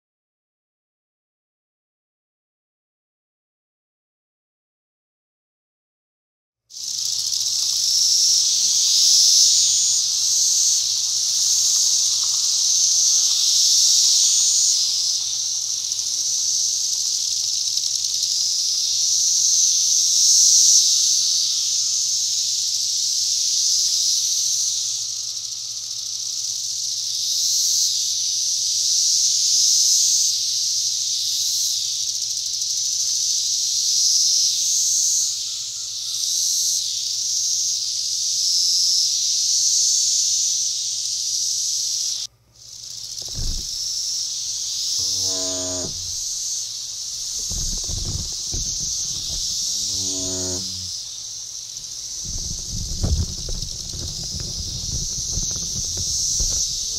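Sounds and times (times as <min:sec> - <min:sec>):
cicadas buzzing: 0:06.8 - 0:56.9.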